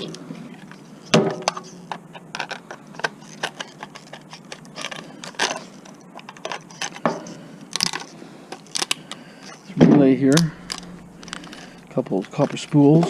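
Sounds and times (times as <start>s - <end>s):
metal and plastic parts clattering: 0.0s - 13.0s.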